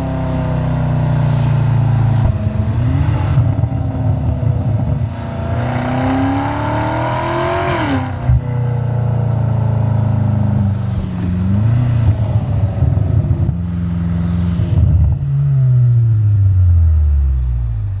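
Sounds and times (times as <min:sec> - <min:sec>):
car engine revving under load: 0:00.0 - 0:18.0.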